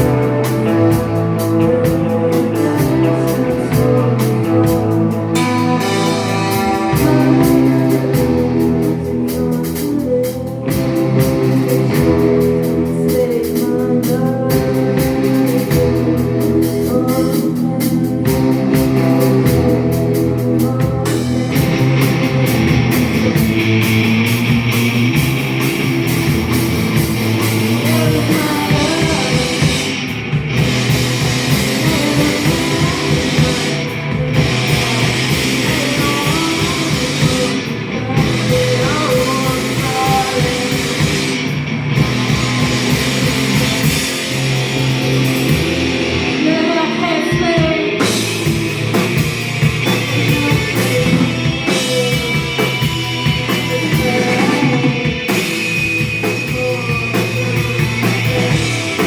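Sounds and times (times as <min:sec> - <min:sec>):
rock music with guitar and drums: 0:00.0 - 0:59.0.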